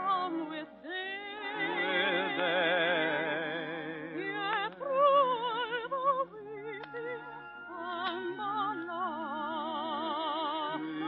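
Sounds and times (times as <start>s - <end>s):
operatic soprano singing: 0.0s - 11.0s.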